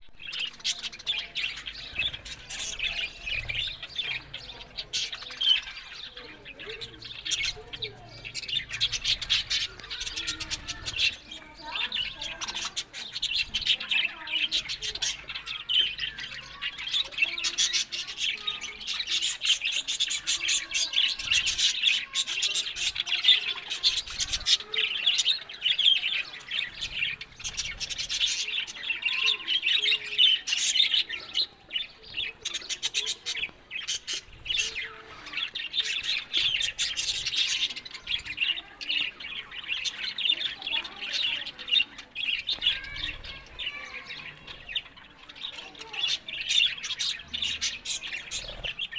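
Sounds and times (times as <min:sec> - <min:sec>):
budgerigars chattering: 0:00.2 - 0:48.9.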